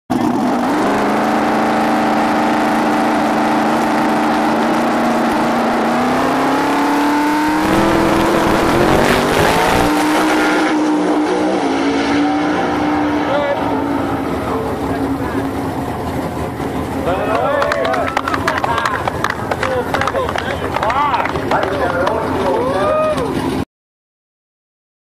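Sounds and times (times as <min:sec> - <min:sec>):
drag car engine revving: 0:00.1 - 0:23.6.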